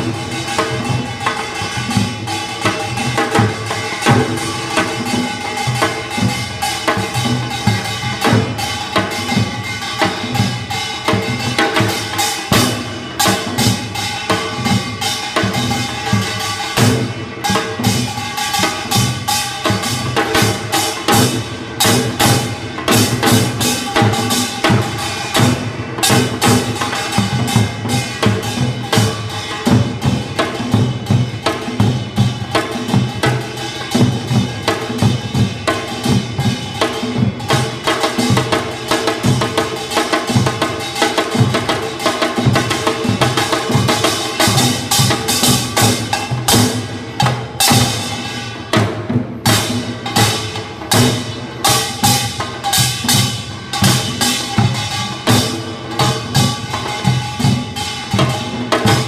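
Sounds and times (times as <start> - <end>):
fast drumming: 0.0 - 59.0.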